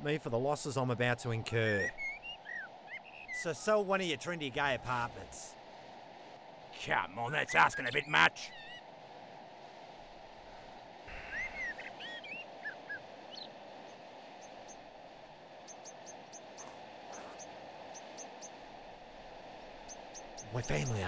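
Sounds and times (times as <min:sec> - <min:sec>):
birds chirping: 0:00.0 - 0:05.4, 0:06.8 - 0:08.9, 0:10.3 - 0:21.0
steady background hiss: 0:00.0 - 0:21.0.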